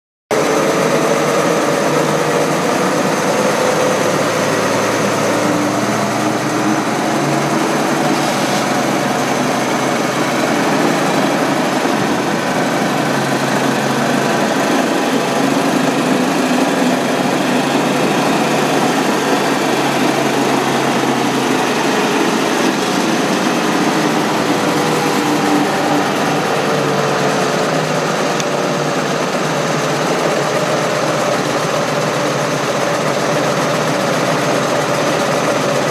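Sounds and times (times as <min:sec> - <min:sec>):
power harrow rotors spinning: 0:00.3 - 0:35.9
tractor diesel engine running: 0:00.3 - 0:35.9.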